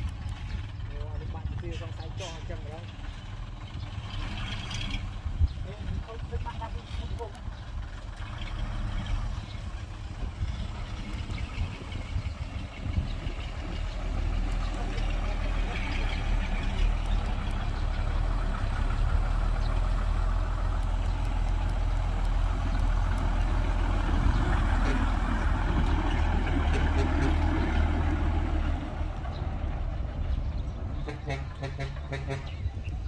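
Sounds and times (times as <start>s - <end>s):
diesel machinery engine rumble: 0.0s - 33.0s.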